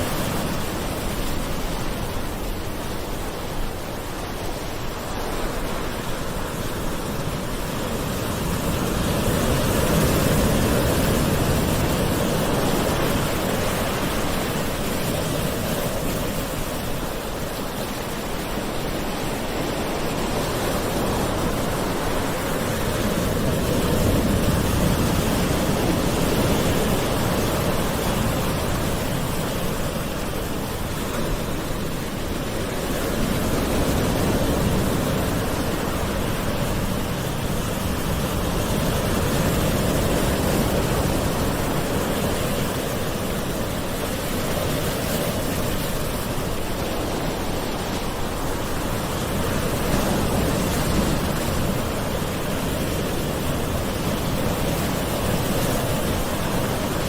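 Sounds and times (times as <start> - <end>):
gentle ocean waves: 0.0 - 57.0.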